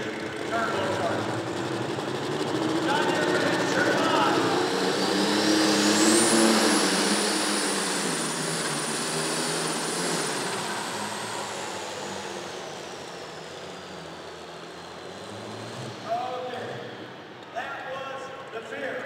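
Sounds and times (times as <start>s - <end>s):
turbocharger whining: 0.0s - 17.6s
tractor engine running hard: 0.0s - 19.0s.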